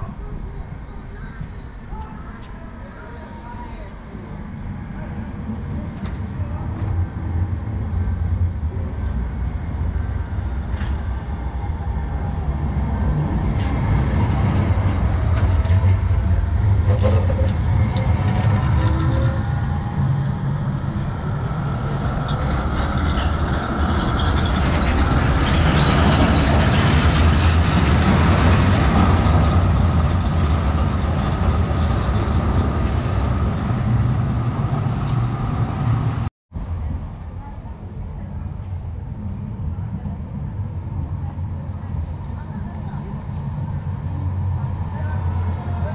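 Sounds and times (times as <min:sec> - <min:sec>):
tram rumbling past: 0:00.0 - 0:45.9.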